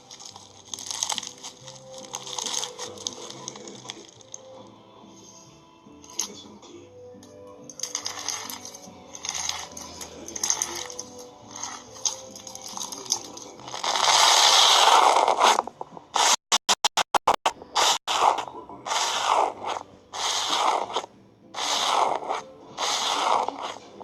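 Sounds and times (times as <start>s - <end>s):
scratchy scraping noise: 0.0s - 4.4s, 7.9s - 24.0s.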